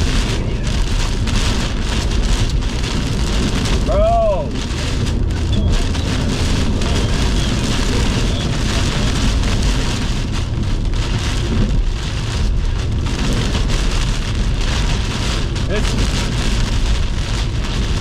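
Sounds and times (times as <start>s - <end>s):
deep rumble: 0.0s - 18.0s
heavy rain beating on a car: 0.0s - 18.0s
strong wind gusts: 0.0s - 18.0s.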